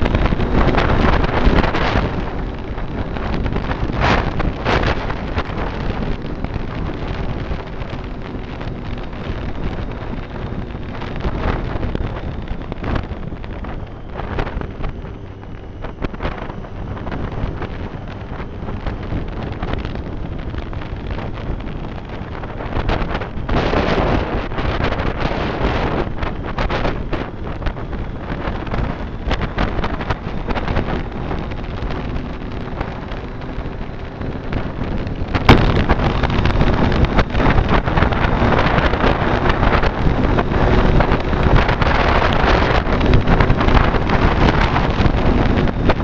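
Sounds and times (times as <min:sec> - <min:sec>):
motorcycle engine running: 0:00.0 - 0:46.0
wind buffeting microphone: 0:00.0 - 0:46.0.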